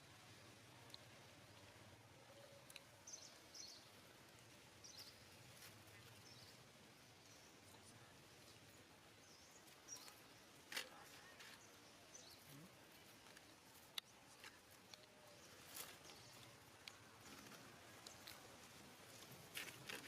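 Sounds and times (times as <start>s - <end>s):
low background hiss: 0.0s - 20.0s.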